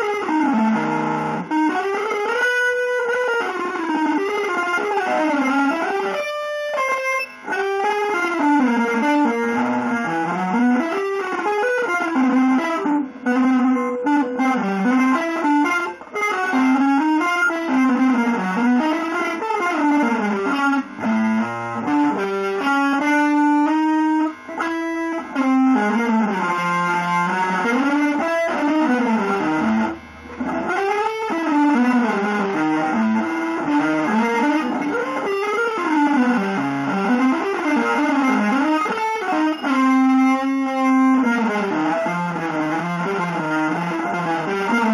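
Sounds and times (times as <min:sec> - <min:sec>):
electric guitar melody: 0:00.0 - 0:44.9.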